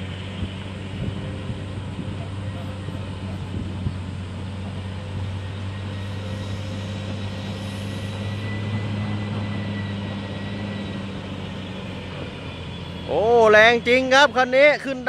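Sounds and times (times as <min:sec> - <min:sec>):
diesel truck engine running hard: 0:00.0 - 0:15.0.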